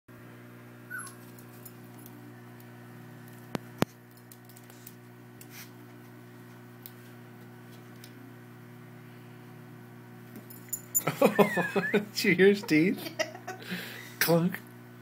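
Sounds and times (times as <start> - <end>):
steady low hum: 0.1 - 15.0.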